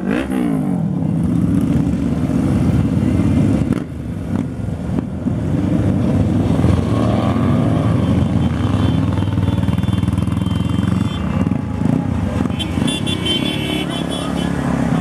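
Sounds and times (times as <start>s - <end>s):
motorcycles riding past: 0.0s - 15.0s.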